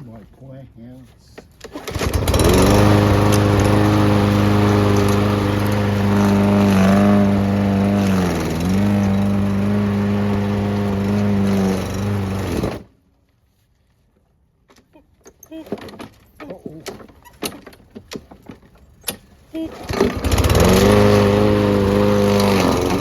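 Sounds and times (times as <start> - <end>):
garden shredder grinding: 1.6 - 12.9, 15.6 - 23.0.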